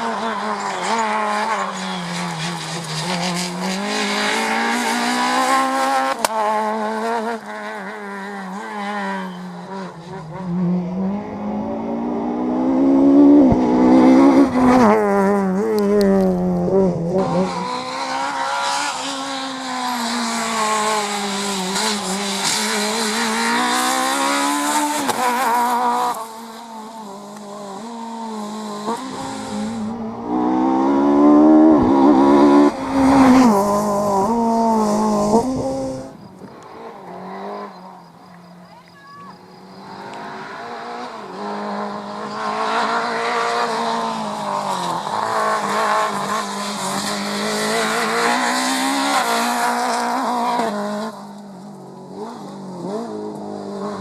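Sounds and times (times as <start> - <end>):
rally car engines revving: 0.0 - 38.7, 39.5 - 54.0.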